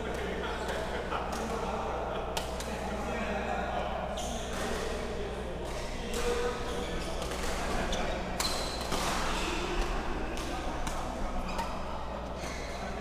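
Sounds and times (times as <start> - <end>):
reverberant murmur of voices: 0.0 - 13.0.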